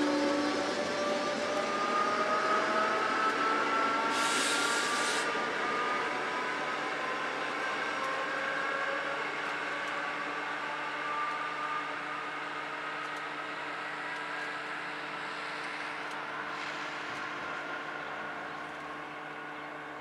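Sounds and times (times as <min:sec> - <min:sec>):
passenger train running hum: 0:00.0 - 0:20.0.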